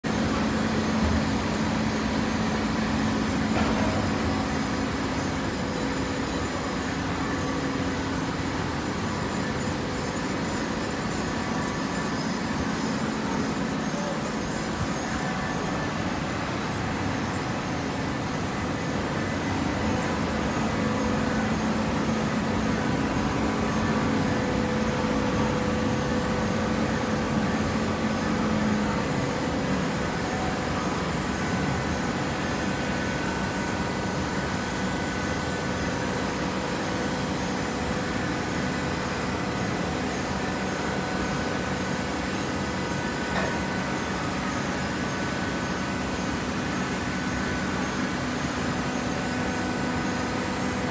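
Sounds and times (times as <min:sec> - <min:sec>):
hydraulic baler humming: 0:00.0 - 0:50.9.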